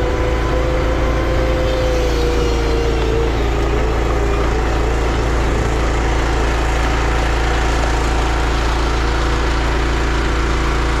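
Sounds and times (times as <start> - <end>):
pressure washer engine: 0.0 - 11.0.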